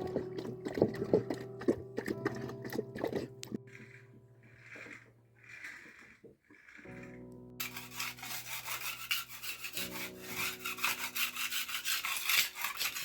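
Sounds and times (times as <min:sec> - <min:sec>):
fast rasping scraping strokes: 0:00.0 - 0:13.0.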